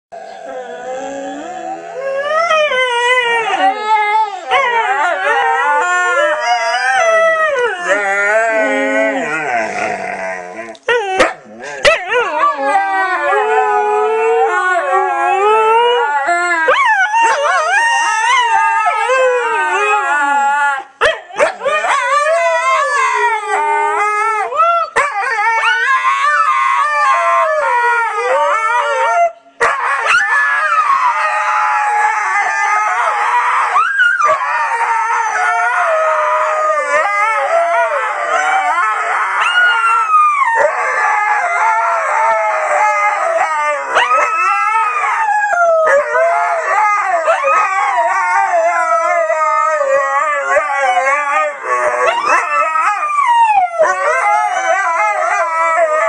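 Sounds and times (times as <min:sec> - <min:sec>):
dogs howling together: 0:00.2 - 0:56.0.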